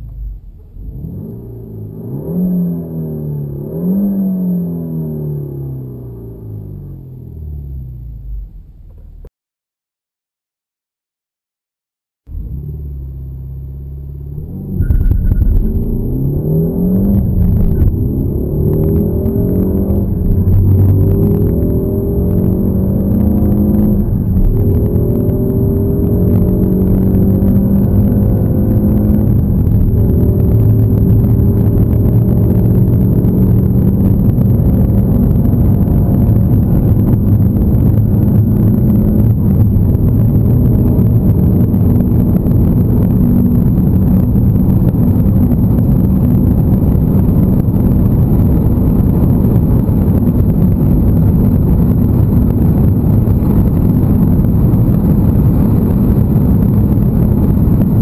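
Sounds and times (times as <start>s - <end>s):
car engine accelerating: 0.0s - 9.3s, 12.3s - 58.0s
road and wind noise: 0.0s - 9.3s, 12.3s - 58.0s.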